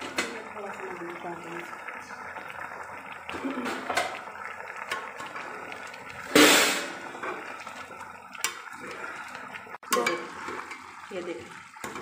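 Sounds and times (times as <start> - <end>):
broth bubbling in a pot: 0.0 - 12.0.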